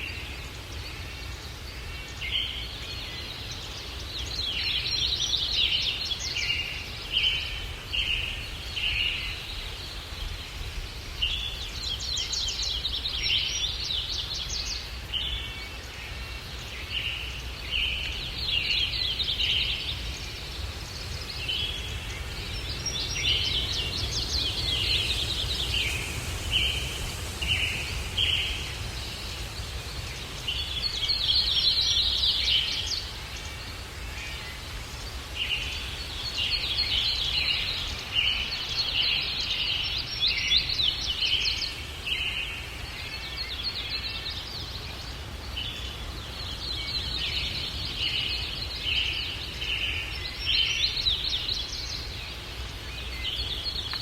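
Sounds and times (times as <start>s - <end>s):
low rumble of wind: 0.0s - 54.0s.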